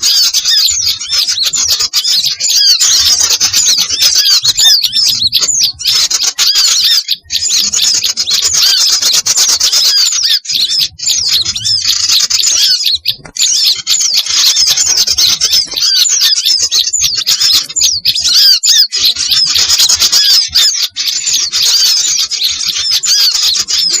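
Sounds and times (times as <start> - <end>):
small birds chattering and squawking: 0.0 - 24.0.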